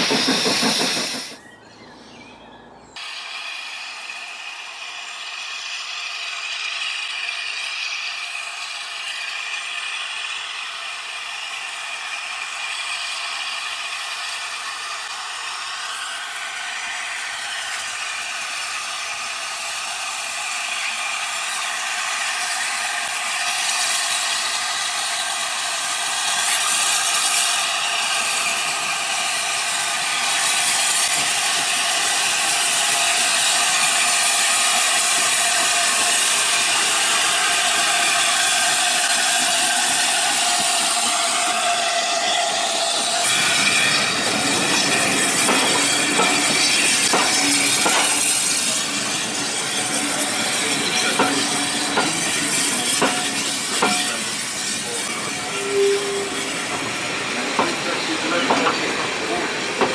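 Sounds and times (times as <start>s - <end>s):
steam train approaching: 0.0s - 59.9s
train coaches rolling on rails: 0.0s - 59.9s.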